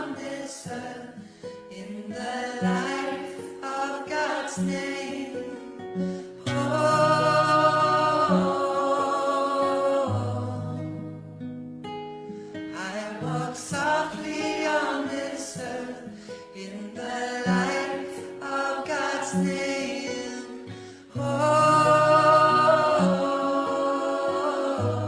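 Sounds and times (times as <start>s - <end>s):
voices singing in harmony: 0.0s - 11.2s, 12.7s - 25.0s.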